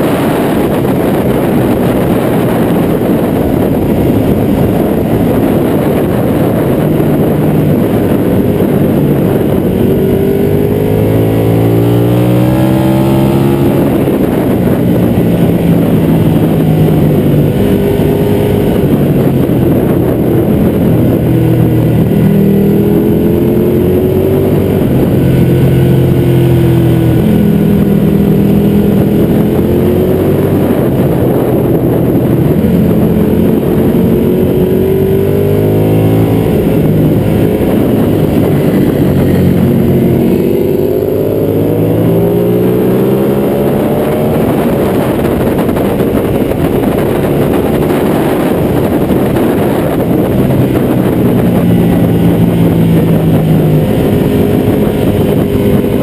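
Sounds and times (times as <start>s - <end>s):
heavy wind rush: 0.0s - 56.0s
motorcycle engine accelerating: 0.0s - 56.0s.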